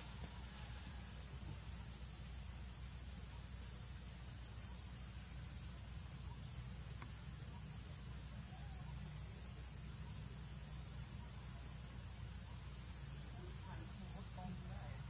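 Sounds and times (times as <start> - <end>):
high-pitched insect drone: 0.0 - 15.0
low steady rumble: 0.0 - 15.0.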